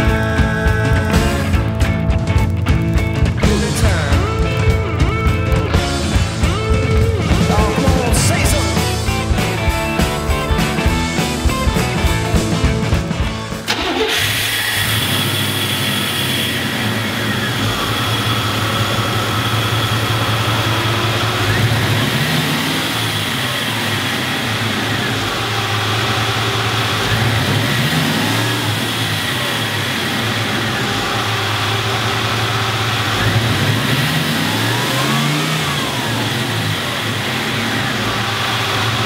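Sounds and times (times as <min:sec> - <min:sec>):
pickup engine idling and revving: 0:00.0 - 0:39.0.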